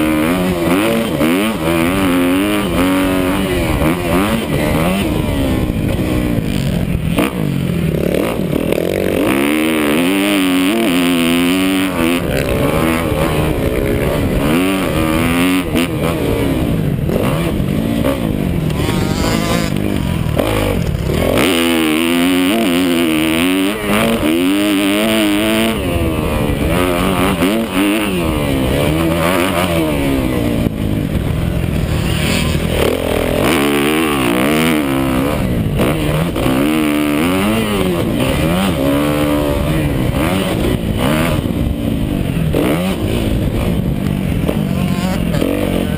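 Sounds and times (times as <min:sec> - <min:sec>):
motocross motorcycle engine revving: 0:00.0 - 0:45.9.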